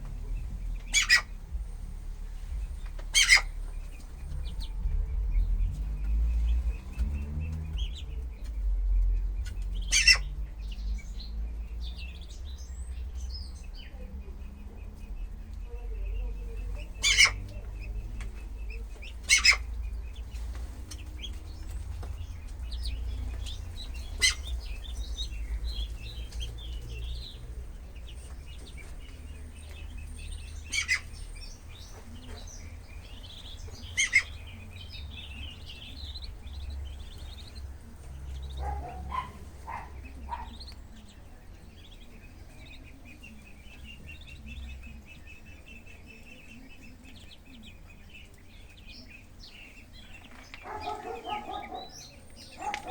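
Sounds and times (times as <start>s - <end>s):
ducklings peeping: 0.0s - 52.9s.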